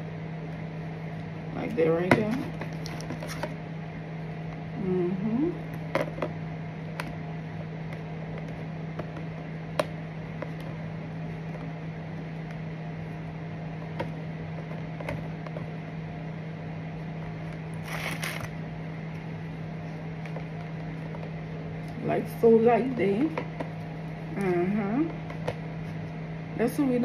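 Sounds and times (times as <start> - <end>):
kitchen appliance humming: 0.0 - 27.0.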